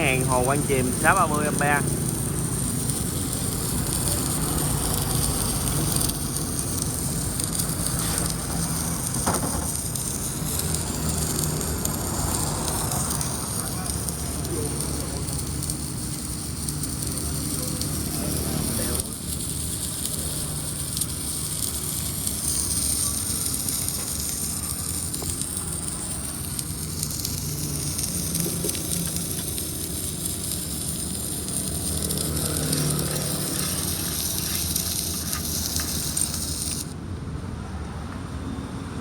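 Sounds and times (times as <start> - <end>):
welding arc crackling hiss: 0.0 - 37.0.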